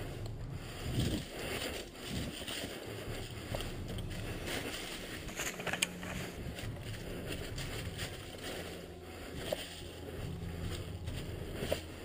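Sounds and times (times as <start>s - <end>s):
rustling over dry leaves: 0.0s - 12.0s.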